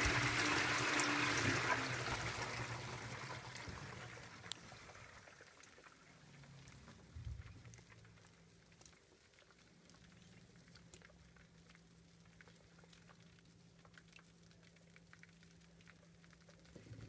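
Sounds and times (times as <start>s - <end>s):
water dripping and bubbles popping: 0.0s - 17.0s.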